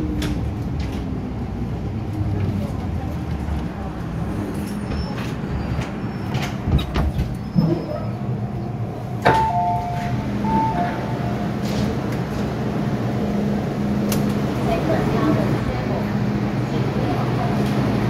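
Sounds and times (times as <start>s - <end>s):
train hum: 0.0s - 18.0s.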